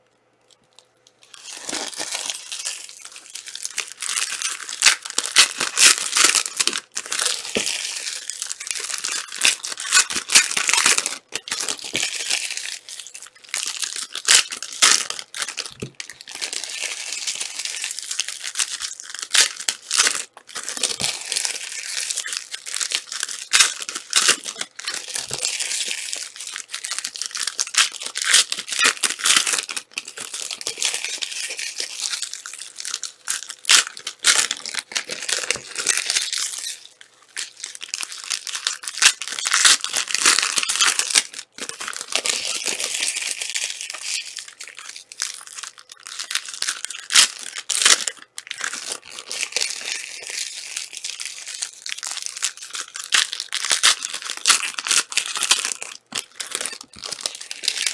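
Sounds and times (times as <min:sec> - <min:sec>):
plastic wrapping crinkling and tearing: 0:00.5 - 0:57.9.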